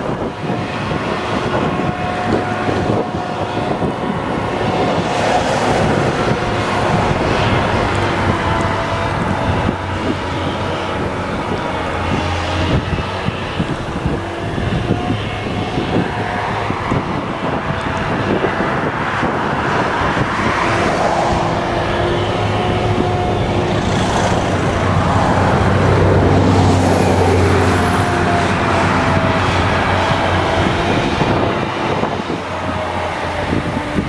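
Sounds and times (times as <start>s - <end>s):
forage harvester drone: 0.0s - 34.0s.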